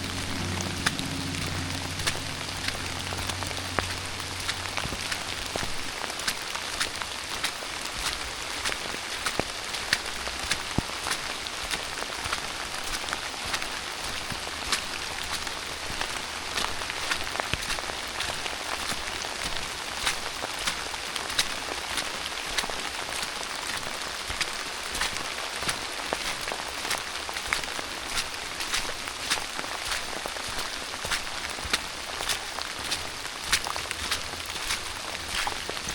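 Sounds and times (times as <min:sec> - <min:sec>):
raindrops tapping close by: 0:00.0 - 0:35.9
steady rain hiss: 0:00.0 - 0:35.9.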